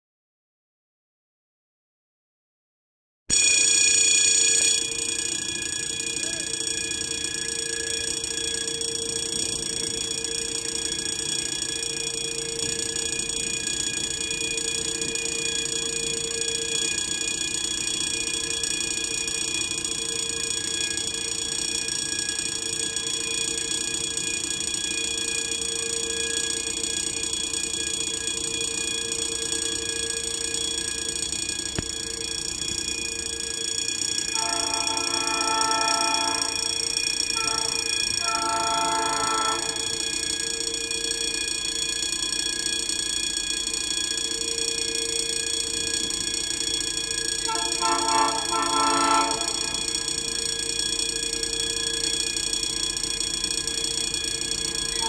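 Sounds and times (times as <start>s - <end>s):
level crossing warning bell: 3.3s - 55.0s.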